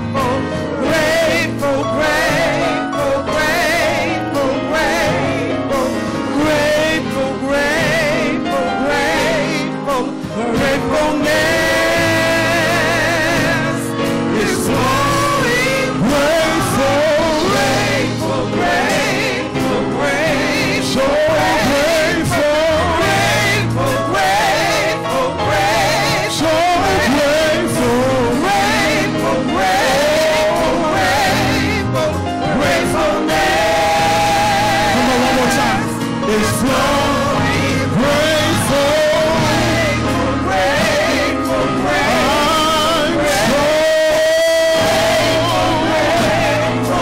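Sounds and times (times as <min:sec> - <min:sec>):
gospel group singing: 0:00.0 - 0:47.0
sustained instrumental chords: 0:00.0 - 0:47.0.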